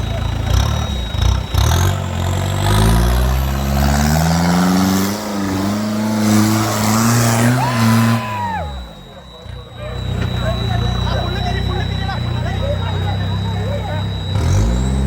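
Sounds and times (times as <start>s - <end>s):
high steady tone: 0.0s - 15.0s
off-road vehicle engine revving: 0.0s - 15.0s.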